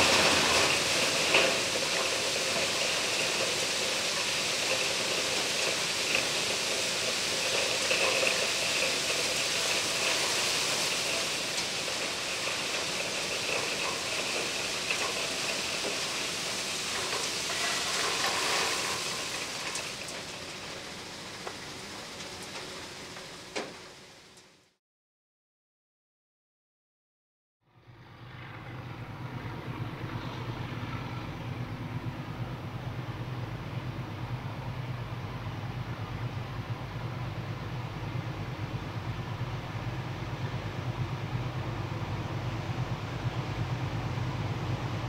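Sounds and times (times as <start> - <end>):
gravel pouring into steel wagon: 0.0 - 24.5, 30.7 - 45.0.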